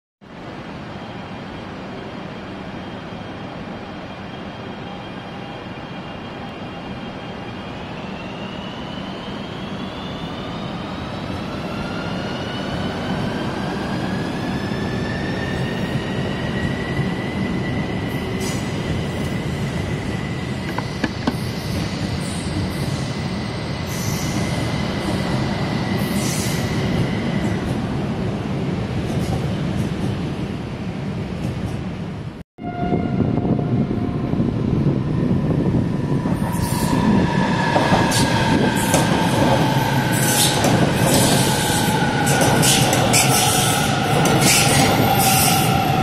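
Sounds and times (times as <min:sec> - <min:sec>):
rumble of train wheels: 0:00.4 - 0:46.0.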